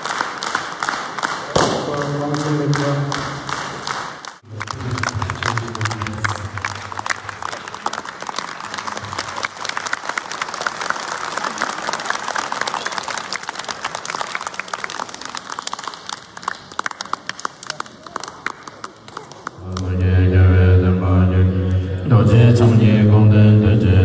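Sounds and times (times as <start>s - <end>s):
group clapping hands: 0.0s - 20.1s.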